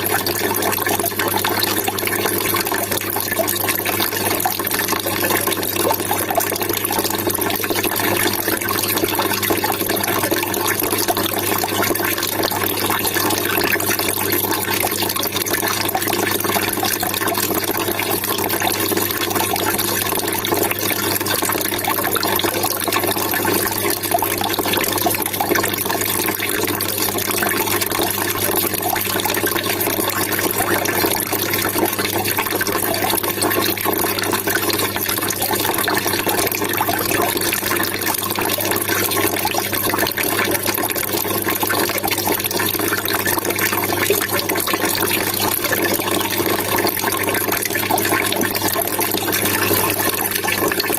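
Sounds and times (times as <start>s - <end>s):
water trickling and splashing: 0.0s - 50.9s.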